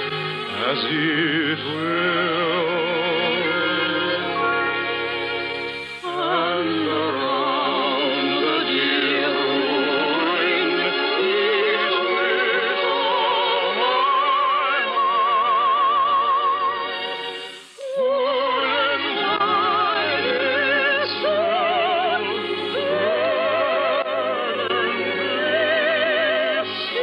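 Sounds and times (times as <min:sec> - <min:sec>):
operatic singing with vibrato: 0:00.0 - 0:27.0
orchestra: 0:00.0 - 0:27.0.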